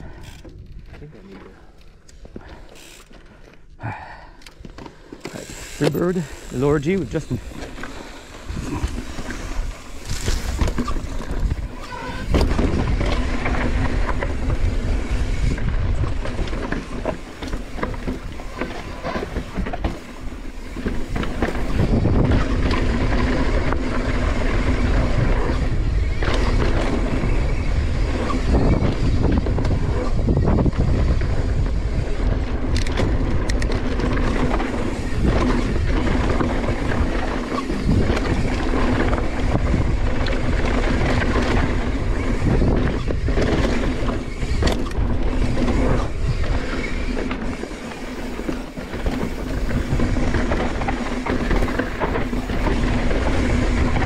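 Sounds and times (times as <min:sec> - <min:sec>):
bike clattering over bumps: 0:04.6 - 0:54.0
wind buffeting microphone: 0:06.0 - 0:54.0.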